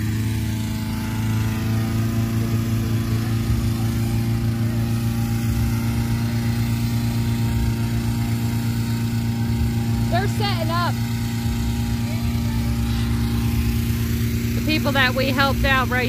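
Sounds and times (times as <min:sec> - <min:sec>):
gas-engine inflator fan running: 0:00.0 - 0:16.0.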